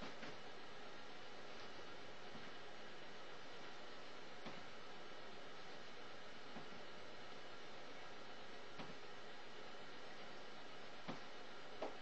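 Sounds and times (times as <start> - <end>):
faint recording hiss: 0.0 - 12.0.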